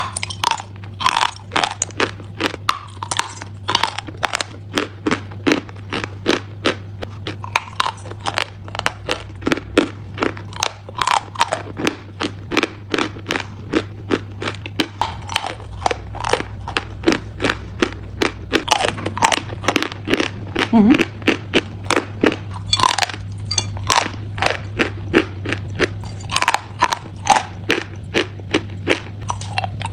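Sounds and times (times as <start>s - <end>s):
chalk crunching while chewed: 0.0s - 29.9s
faint low hum: 0.0s - 29.9s.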